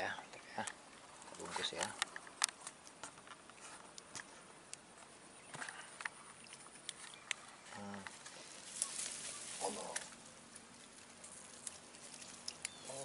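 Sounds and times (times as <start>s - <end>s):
rustling in grass: 1.0s - 13.0s.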